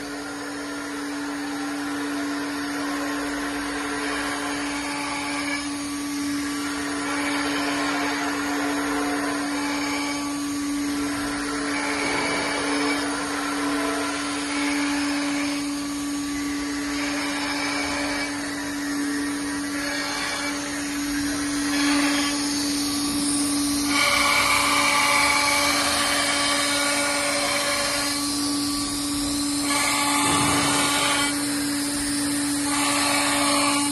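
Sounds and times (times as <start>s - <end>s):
noisy machining: 0.0s - 33.9s
router spindle hum: 0.0s - 33.9s.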